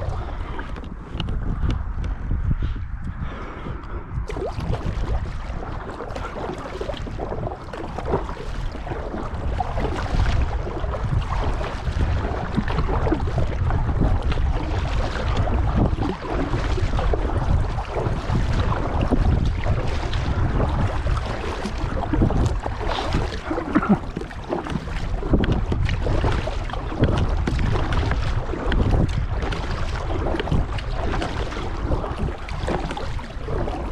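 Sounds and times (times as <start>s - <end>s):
paddle splashing water: 0.0s - 2.2s, 4.3s - 33.9s
wind buffeting microphone: 0.0s - 33.9s.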